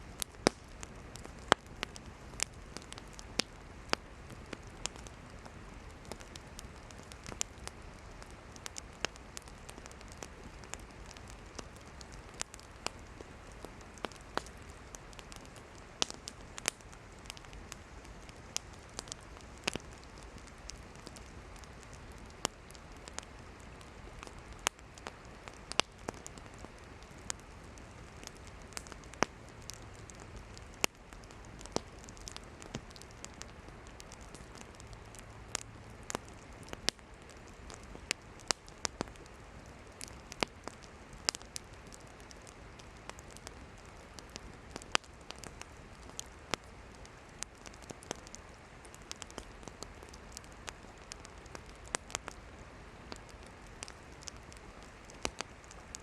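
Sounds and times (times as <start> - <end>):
firewood popping and crackling: 0.0 - 56.0
hiss of flames: 0.0 - 56.0.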